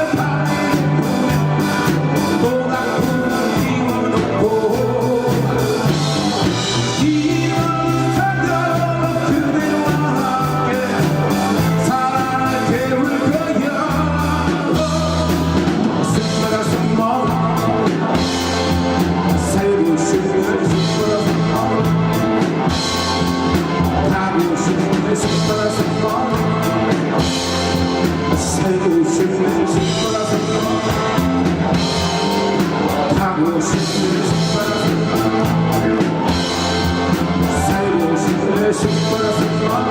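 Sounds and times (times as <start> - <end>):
drums: 0.0 - 39.9
electric bass: 0.0 - 39.9
electric guitar: 0.0 - 39.9
person singing: 0.0 - 39.9.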